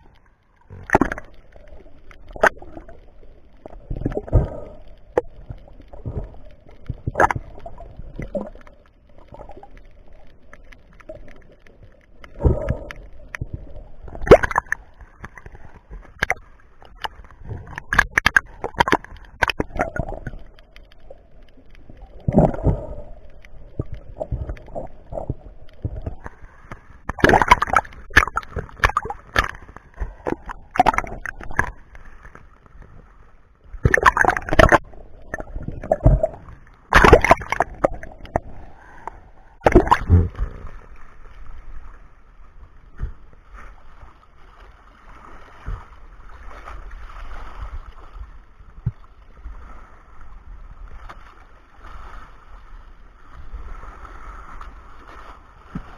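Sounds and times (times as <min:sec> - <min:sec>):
steady wash of moving water: 0:00.0 - 0:55.9
water splashing: 0:00.0 - 0:55.9.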